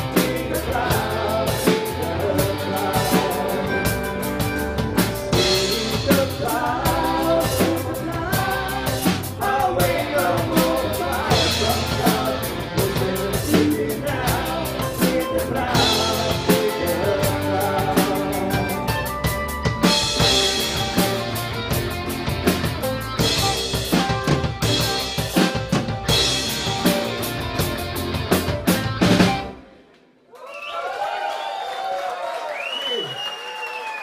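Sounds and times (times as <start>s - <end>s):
acoustic and electric guitars: 0.0s - 29.6s
drum kit beat: 0.0s - 29.6s
electric bass: 0.0s - 29.6s.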